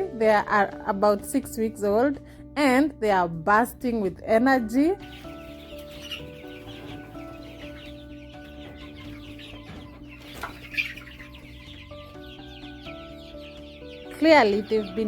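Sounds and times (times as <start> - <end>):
chicks peeping and clucking: 0.0 - 15.0.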